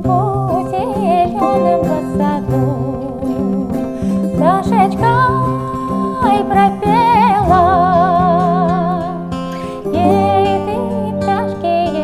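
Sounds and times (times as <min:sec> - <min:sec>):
plucked guitar and bouzouki: 0:00.0 - 0:12.0
woman singing with vibrato: 0:00.0 - 0:12.0.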